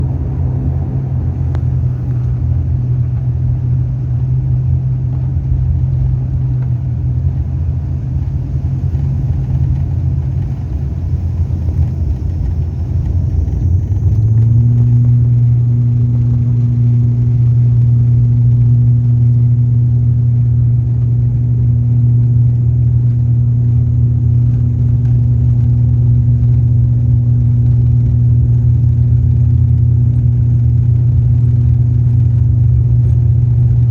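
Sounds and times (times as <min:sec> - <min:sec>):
airliner engines rumbling: 0:00.0 - 0:33.9.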